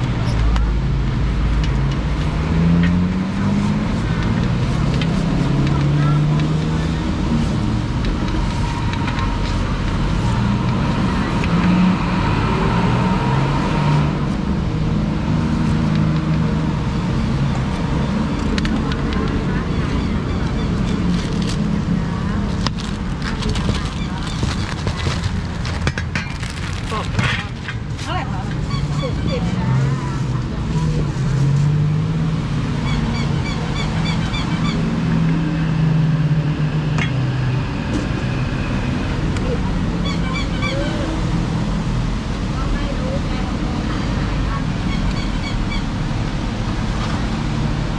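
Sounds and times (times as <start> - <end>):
car engines running close by: 0.0 - 47.9
road traffic: 0.0 - 47.9.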